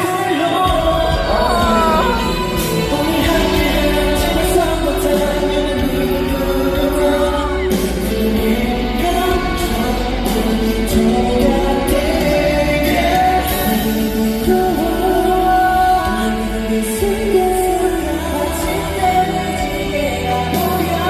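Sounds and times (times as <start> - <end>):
loud pop backing music: 0.0 - 21.0
male vocals singing: 0.0 - 21.0.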